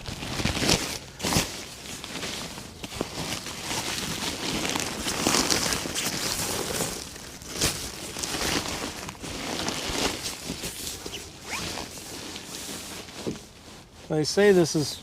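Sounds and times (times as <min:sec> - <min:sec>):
bedding crinkling and rustling: 0:00.0 - 0:15.0.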